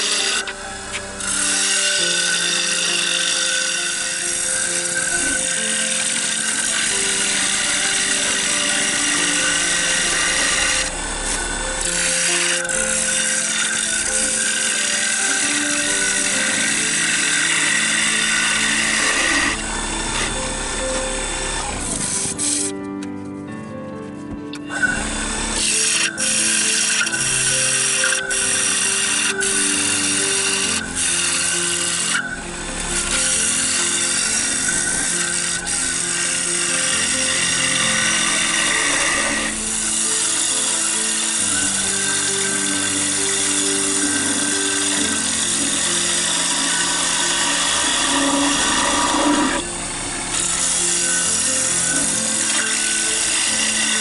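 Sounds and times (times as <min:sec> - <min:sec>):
gouge cutting spinning wooden bowl: 0:00.0 - 0:22.7, 0:24.7 - 0:54.0
soft background music: 0:00.0 - 0:54.0.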